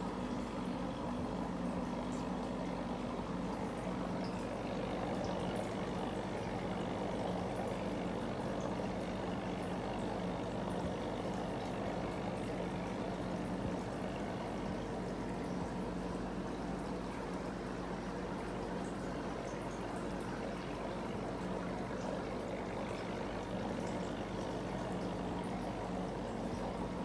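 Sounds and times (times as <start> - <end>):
aquarium filter bubbling: 0.0 - 27.0.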